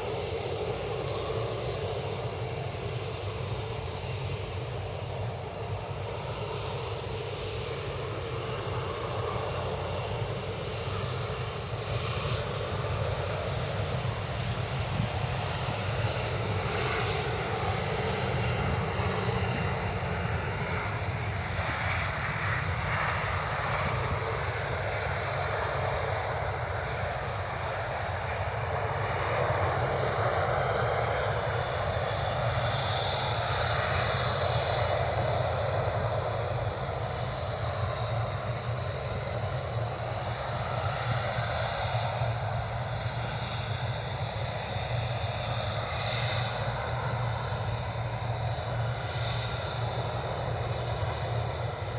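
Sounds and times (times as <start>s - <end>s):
aircraft engines rushing: 0.0s - 51.9s
high engine whine: 0.0s - 51.9s.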